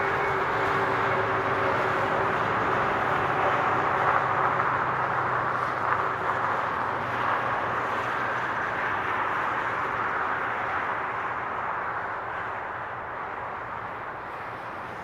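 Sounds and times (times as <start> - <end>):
highway traffic noise: 0.0 - 15.0.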